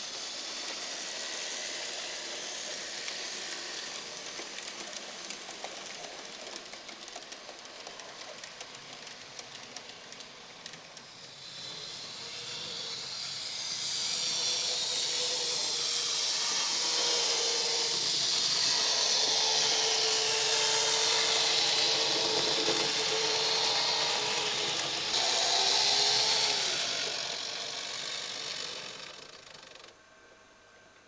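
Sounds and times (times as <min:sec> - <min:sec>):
wheels hissing on rail: 0:00.0 - 0:29.9
model train motor whirring: 0:00.0 - 0:30.0.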